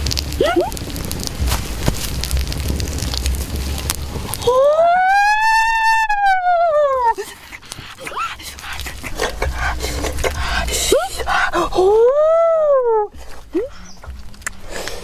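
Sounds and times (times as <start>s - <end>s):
campfire crackling and popping: 0.0s - 12.3s, 13.1s - 15.0s.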